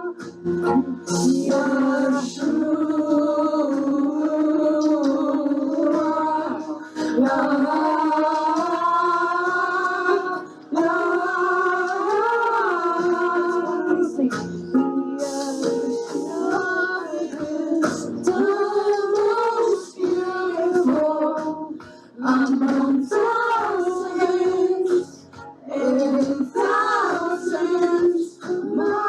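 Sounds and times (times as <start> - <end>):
voices singing worship song: 0.0 - 29.0.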